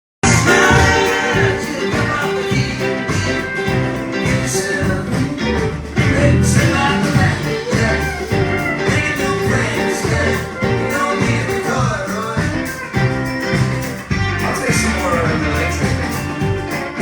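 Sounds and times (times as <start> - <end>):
rock band playing: 0.2 - 17.0.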